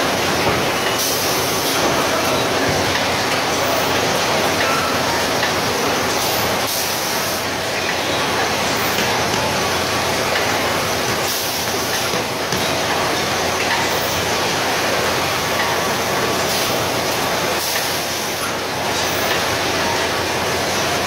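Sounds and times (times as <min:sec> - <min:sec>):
factory machinery and conveyors: 0:00.0 - 0:21.0.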